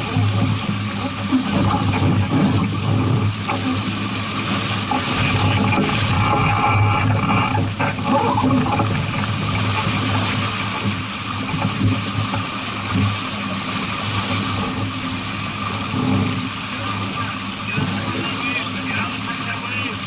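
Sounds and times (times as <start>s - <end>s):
rushing water: 0.0s - 20.0s
wind: 0.0s - 20.0s.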